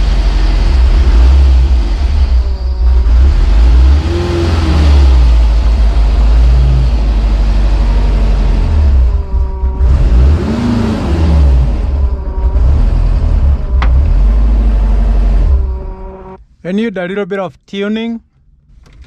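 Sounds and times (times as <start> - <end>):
car engine idling high: 0.0 - 16.5.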